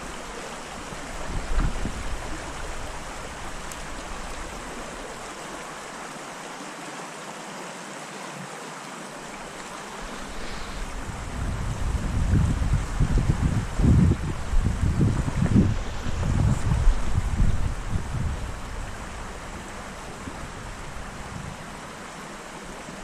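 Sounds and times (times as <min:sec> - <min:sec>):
wind buffeting microphone: 0:00.0 - 0:05.7, 0:09.9 - 0:23.0
stream water flowing: 0:00.0 - 0:23.0.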